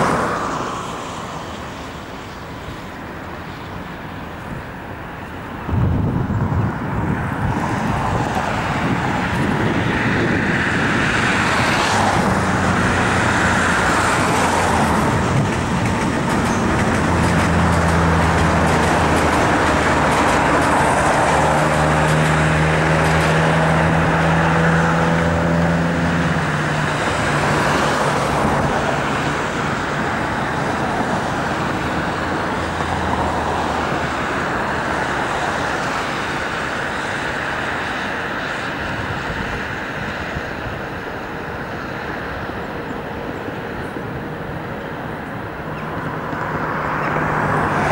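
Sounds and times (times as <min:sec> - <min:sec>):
train humming tone: 0:00.0 - 0:47.9
train wheels rumbling on rail: 0:00.0 - 0:47.9.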